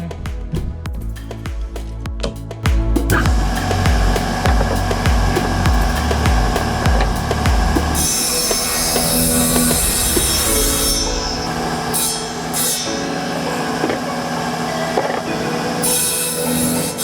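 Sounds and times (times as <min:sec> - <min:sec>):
power saw cutting wood: 0:03.1 - 0:17.0.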